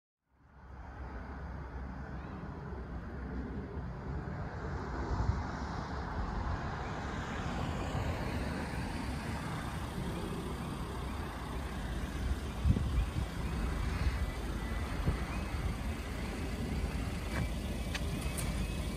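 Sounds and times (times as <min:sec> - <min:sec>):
low rumble of vehicle noise: 0:00.2 - 0:18.9.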